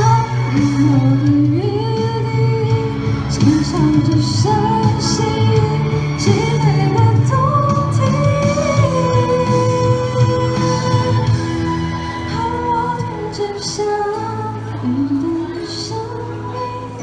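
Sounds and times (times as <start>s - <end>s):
backing track: 0.0s - 17.0s
woman singing a pop ballad: 0.0s - 17.0s.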